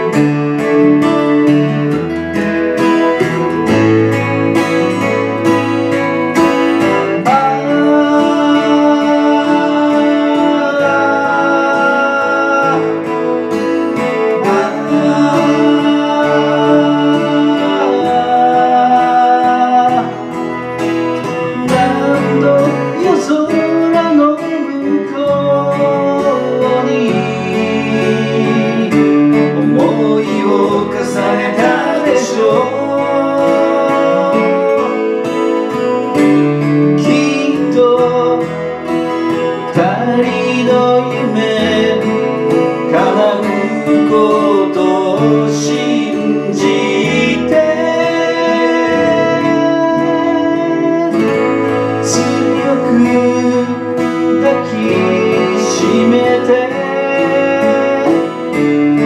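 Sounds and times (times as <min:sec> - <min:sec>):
acoustic guitars playing: 0:00.0 - 0:59.0
man singing: 0:00.0 - 0:59.0.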